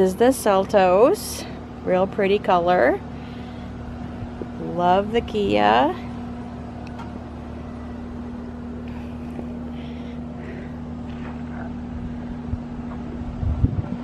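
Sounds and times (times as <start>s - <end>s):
mechanical hum with droning tone: 0.0s - 14.0s
low rumble: 1.6s - 14.0s.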